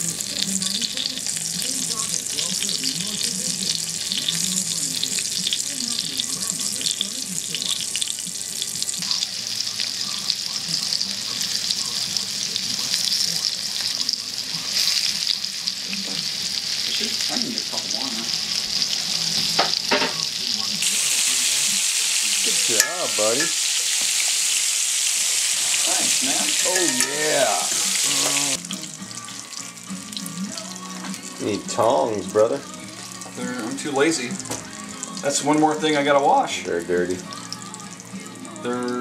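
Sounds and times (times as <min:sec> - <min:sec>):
chicken frying in hot oil: 0:00.0 - 0:39.0.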